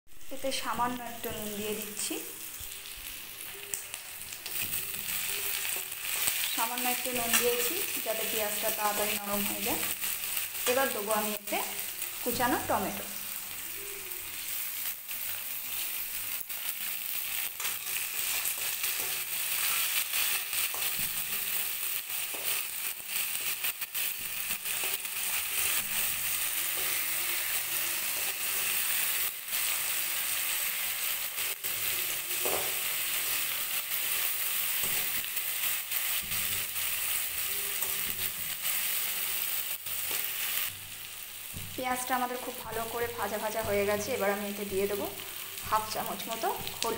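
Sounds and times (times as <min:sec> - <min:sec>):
onions sizzling in hot oil: 0:00.1 - 0:46.9.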